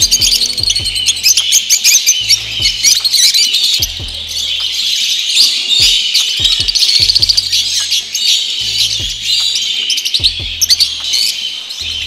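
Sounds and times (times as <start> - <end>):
background music with thumping beat: 0.0 - 1.6, 2.2 - 4.8, 5.8 - 12.0
caged birds chirping and chattering: 0.0 - 12.0.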